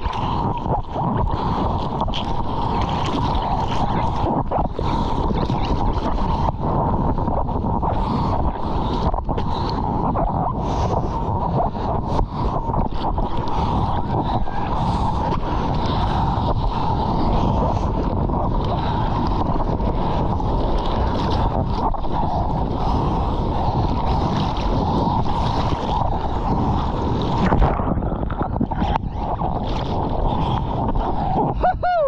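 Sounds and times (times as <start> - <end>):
seawater rushing and splashing: 0.0 - 32.0
wind buffeting microphone: 0.0 - 32.0.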